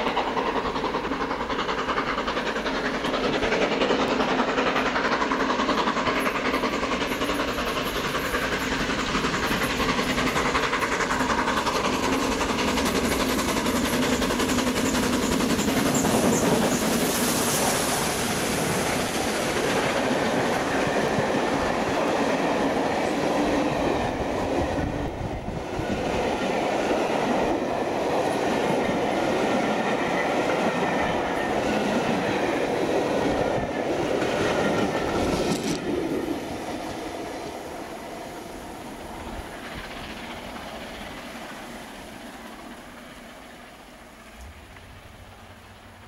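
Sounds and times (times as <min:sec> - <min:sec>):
train coaches rumbling over rails: 0:00.0 - 0:46.0.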